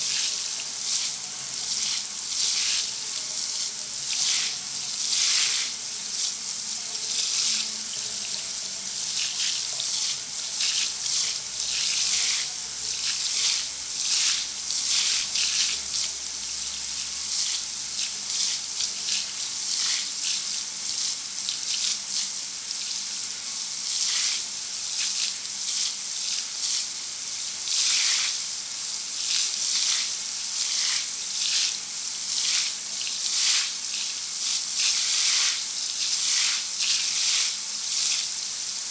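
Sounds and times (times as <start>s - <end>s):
shower water spraying: 0.0s - 38.9s.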